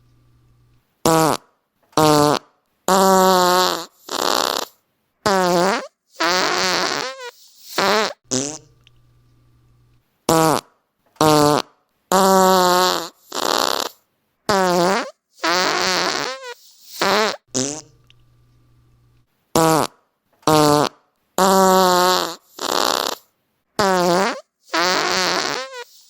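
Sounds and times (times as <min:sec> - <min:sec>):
fart sounds: 0:01.0 - 0:08.7, 0:10.3 - 0:18.0, 0:19.6 - 0:26.0.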